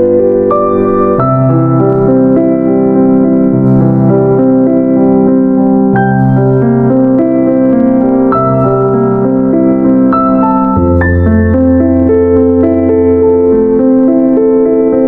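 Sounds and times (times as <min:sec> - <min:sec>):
bass line: 0:00.0 - 0:14.6
electric piano chords: 0:00.0 - 0:15.0.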